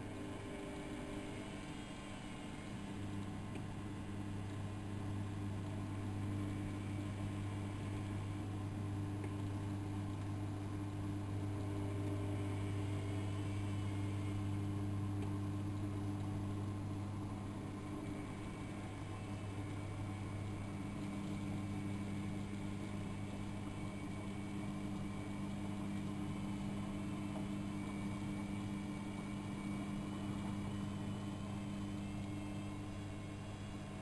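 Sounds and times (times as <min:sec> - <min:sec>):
faint wavering whines: 0:00.0 - 0:34.0
washing machine humming: 0:00.0 - 0:34.0.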